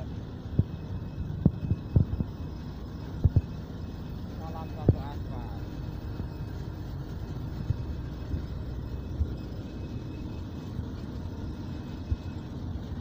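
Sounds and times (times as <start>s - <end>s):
conveyor machinery rumble: 0.0s - 13.0s.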